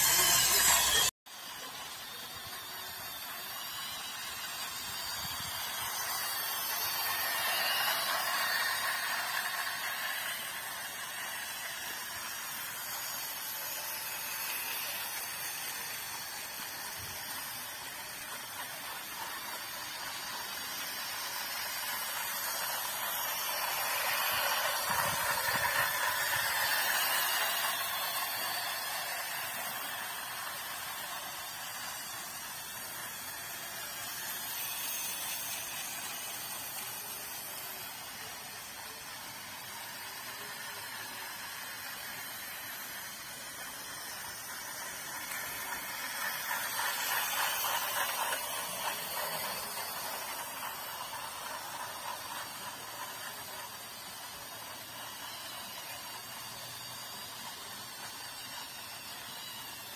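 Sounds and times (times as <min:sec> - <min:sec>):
toy train motor and wheels whirring: 0:00.0 - 0:59.9.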